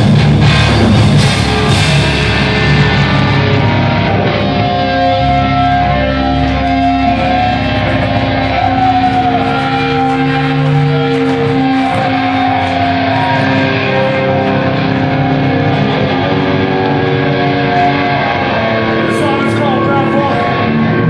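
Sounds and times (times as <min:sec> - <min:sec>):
metal band playing live: 0:00.0 - 0:21.0.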